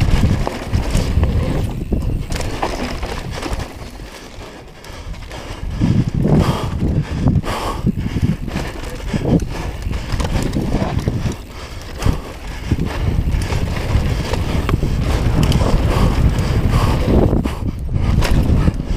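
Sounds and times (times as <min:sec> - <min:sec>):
tyres rolling on dirt: 0:00.0 - 0:17.5
bike rattling and knocking: 0:00.0 - 0:18.9
wind buffeting microphone: 0:00.0 - 0:18.9.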